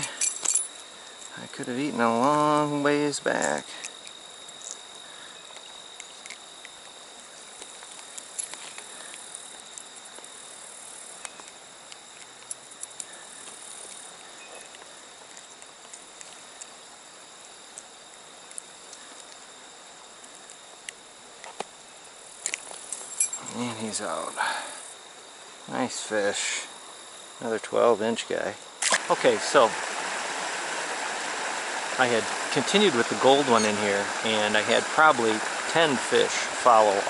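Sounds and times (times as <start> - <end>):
crickets trilling: 0.0 - 37.0
faint hiss: 0.0 - 37.0.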